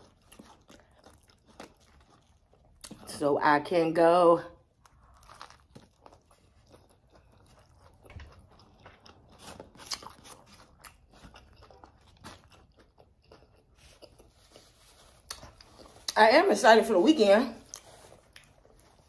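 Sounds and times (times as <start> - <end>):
person chewing sandwich: 0.0 - 3.1, 4.6 - 16.2, 17.6 - 19.0.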